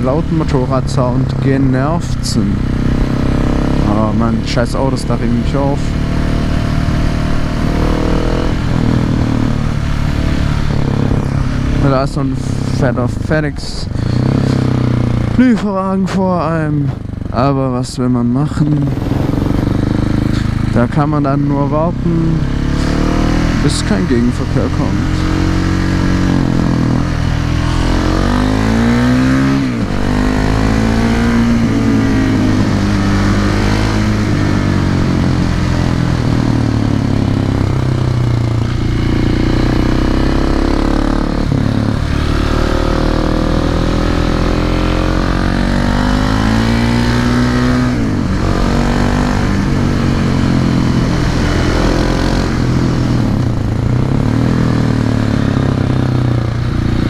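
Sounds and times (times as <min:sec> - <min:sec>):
motorcycle engine accelerating hard: 0:00.0 - 0:57.0.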